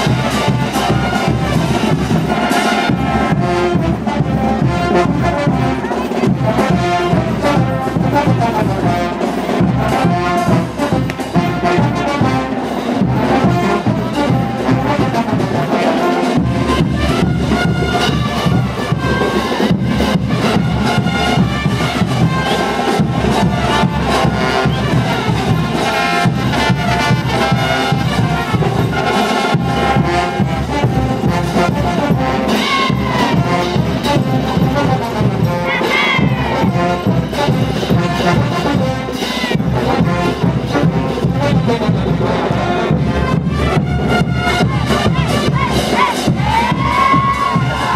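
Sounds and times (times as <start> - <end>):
brass band playing: 0.0 - 47.9.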